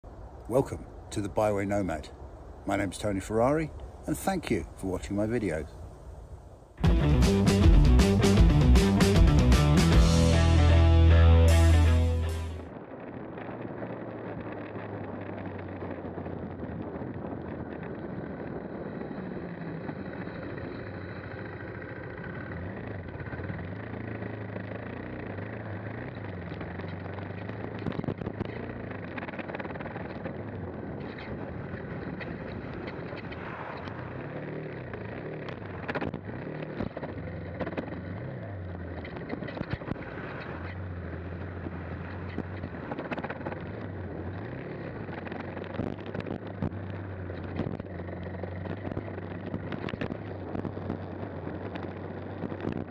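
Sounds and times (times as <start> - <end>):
motorcycle engine running: 6.8 - 12.8, 13.9 - 52.9.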